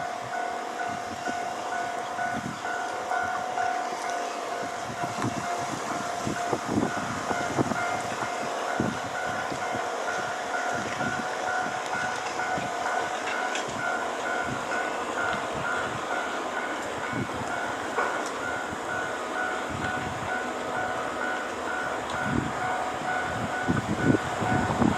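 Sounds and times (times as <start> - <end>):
freight train rumbling past: 0.0 - 24.9.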